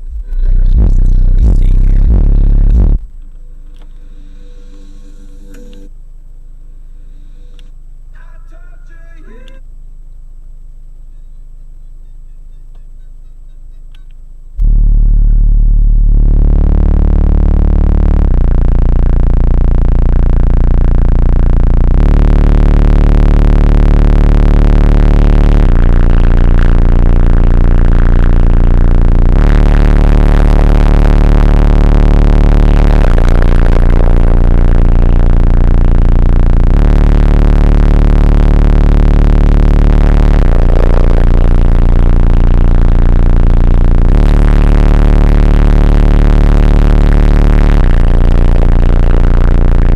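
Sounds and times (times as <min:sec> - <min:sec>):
bass-heavy electronic music: 0:00.0 - 0:06.0, 0:06.8 - 0:09.6, 0:11.8 - 0:49.9.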